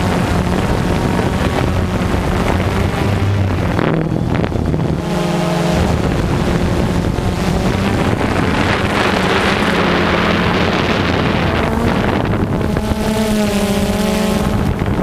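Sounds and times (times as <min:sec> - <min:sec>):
drone propellers buzzing: 0:00.0 - 0:15.0
wind rushing over microphone: 0:00.0 - 0:15.0.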